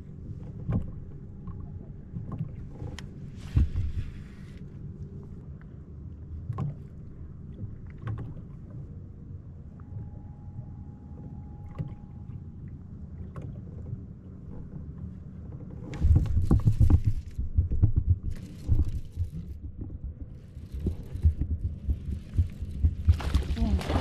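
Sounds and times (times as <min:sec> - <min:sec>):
water lapping against kayak hull: 0:00.0 - 0:05.4, 0:06.3 - 0:10.1, 0:11.1 - 0:24.0.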